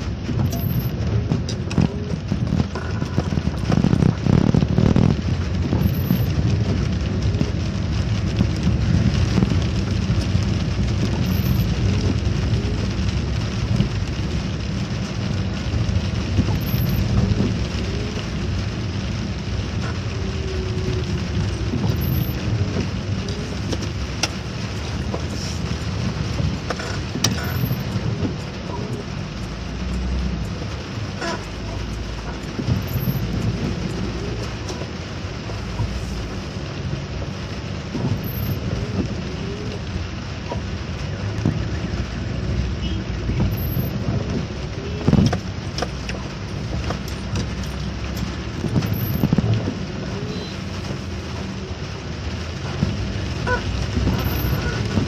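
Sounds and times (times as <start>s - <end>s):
heavy low rumble: 0.0s - 55.0s
steady rain falling: 0.0s - 55.0s.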